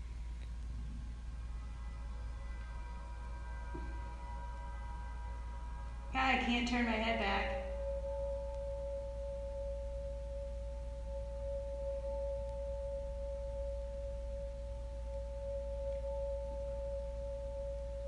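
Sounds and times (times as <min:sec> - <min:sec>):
low steady hum: 0:00.0 - 0:18.0
steady two-pitch pure tone: 0:00.0 - 0:18.0.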